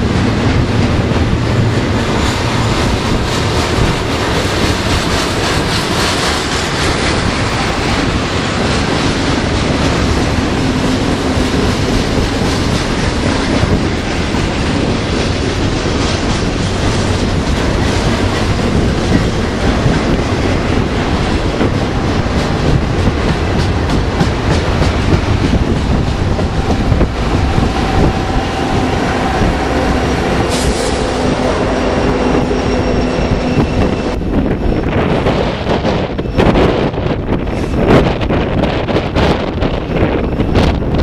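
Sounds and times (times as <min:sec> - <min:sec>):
locomotives passing: 0:00.0 - 0:41.0
train wheels clicking over rails: 0:00.0 - 0:41.0.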